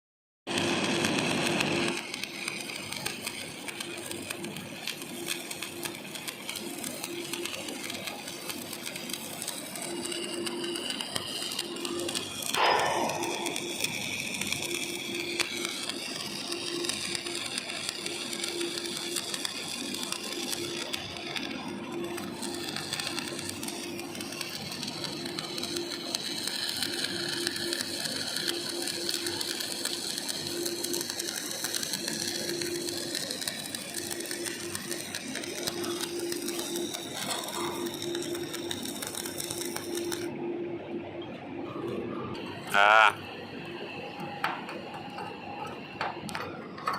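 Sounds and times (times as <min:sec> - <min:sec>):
arc welding crackle: 0:00.5 - 0:40.4, 0:42.3 - 0:46.9.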